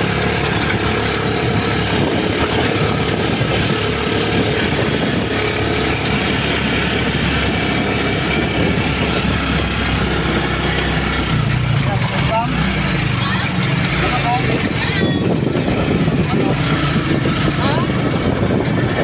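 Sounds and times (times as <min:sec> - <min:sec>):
heavy wind noise: 0:00.0 - 0:19.0
motorcycle engine running: 0:00.0 - 0:19.0
road noise: 0:00.0 - 0:19.0.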